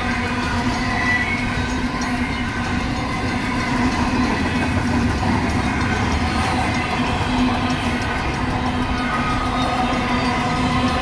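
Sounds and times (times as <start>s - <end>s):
rough mechanical crossing bell: 0.0s - 11.0s
train wheels rumbling on rail: 0.0s - 11.0s.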